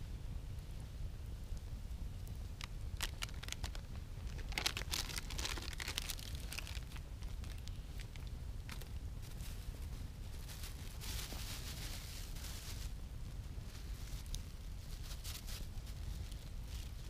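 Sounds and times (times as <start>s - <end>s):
campfire crackling and popping: 0.5s - 17.0s.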